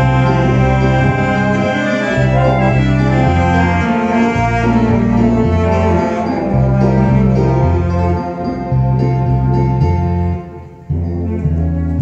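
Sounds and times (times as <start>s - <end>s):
wind ensemble playing slow piece: 0.0s - 12.0s.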